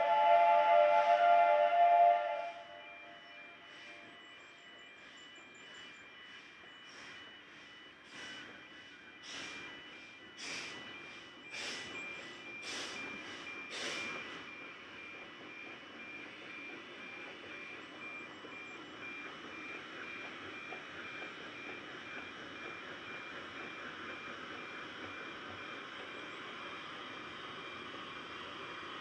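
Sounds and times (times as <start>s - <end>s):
distant steam locomotive exhaust: 0.0s - 29.0s.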